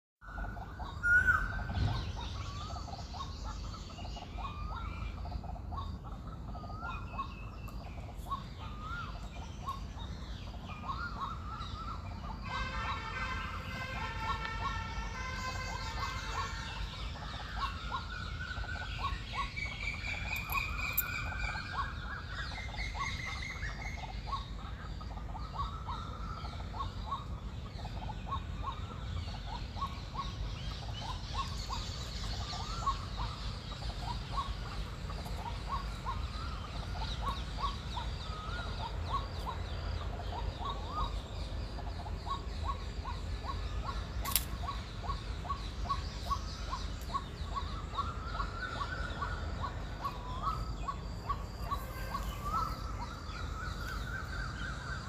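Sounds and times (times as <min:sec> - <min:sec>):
birds chirping: 0:00.2 - 0:55.0
high gliding bird calls: 0:00.2 - 0:55.0
longer fuller bird call: 0:06.4 - 0:41.3, 0:43.5 - 0:55.0.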